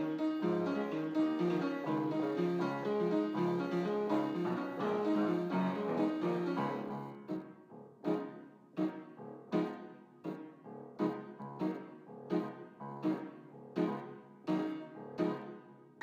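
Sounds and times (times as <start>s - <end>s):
keyboard instrument playing notes: 0.0s - 15.8s.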